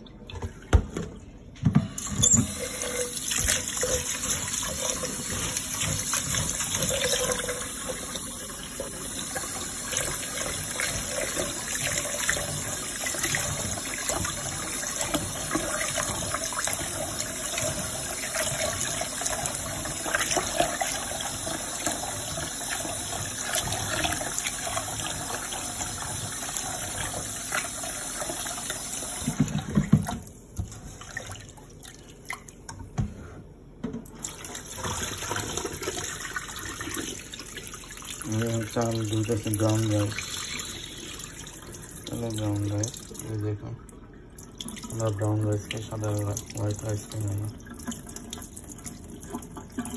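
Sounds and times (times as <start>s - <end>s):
water splashing into sink: 0.0s - 33.0s, 33.8s - 49.9s
tap water running into pot: 1.8s - 31.4s, 34.1s - 43.6s, 44.4s - 49.9s.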